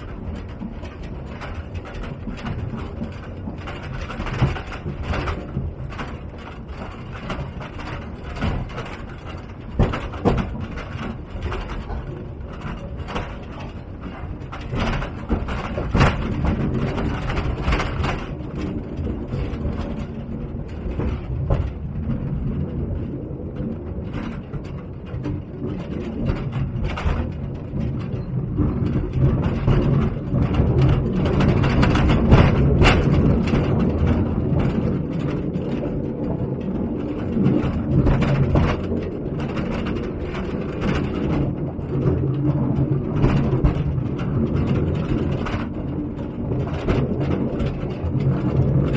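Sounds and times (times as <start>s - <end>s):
low train rumble: 0.0s - 48.9s
trolley wheels clattering on rails: 0.0s - 48.9s.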